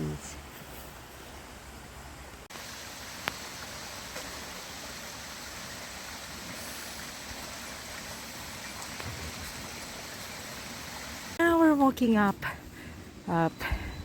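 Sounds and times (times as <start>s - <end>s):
creek water running: 0.0s - 13.4s.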